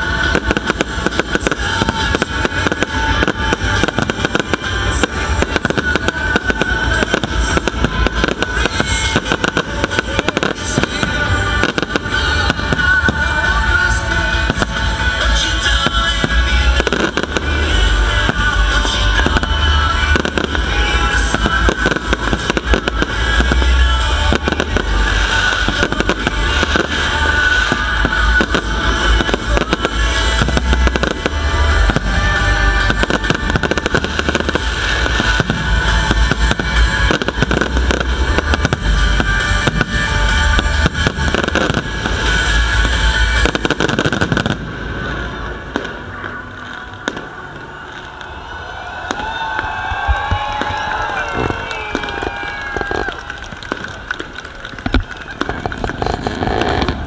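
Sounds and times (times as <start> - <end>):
loud music: 0.0 - 54.6, 55.3 - 57.0
fireworks bangs and crackling: 0.0 - 57.0.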